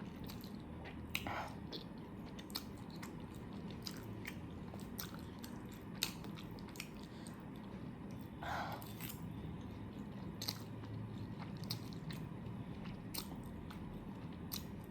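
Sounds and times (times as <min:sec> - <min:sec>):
chewing: 0:00.0 - 0:14.9.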